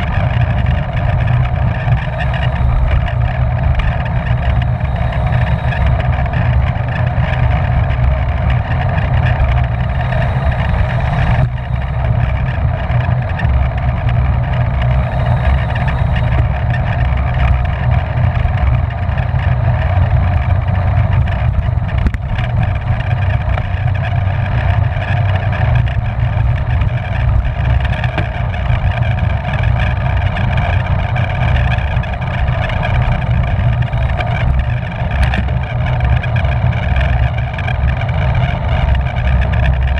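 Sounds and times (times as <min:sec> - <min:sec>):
whir of bicycle tyres and drivetrain: 0:00.0 - 0:39.9
wind buffeting microphone: 0:00.0 - 0:39.9.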